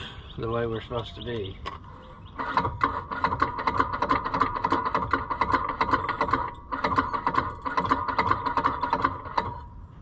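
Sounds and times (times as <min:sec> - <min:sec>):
starter whirring and rattling: 0:01.3 - 0:10.0.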